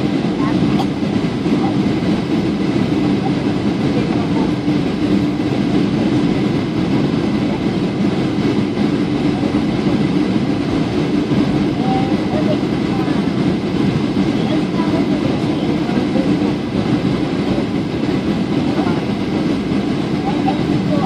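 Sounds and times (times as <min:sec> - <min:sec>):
jet engine hum: 0:00.0 - 0:21.0.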